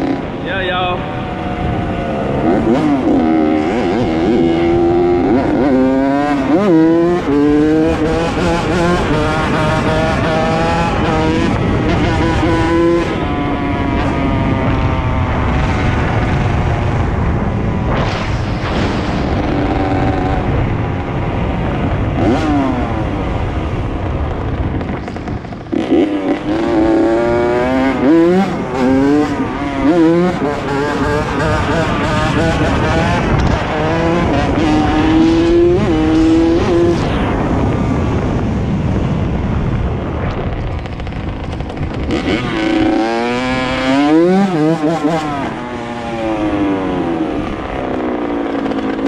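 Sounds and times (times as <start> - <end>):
dirt bike engine revving: 0.0 - 38.4, 40.7 - 49.0.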